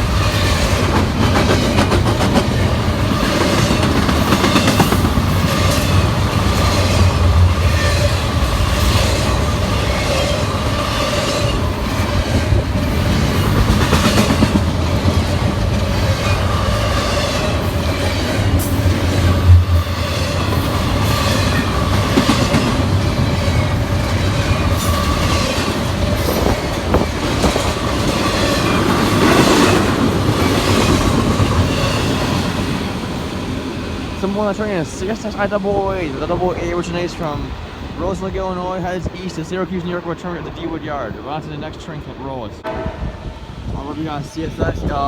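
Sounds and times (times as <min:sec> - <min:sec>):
freight train cars clattering: 0:00.0 - 0:45.0.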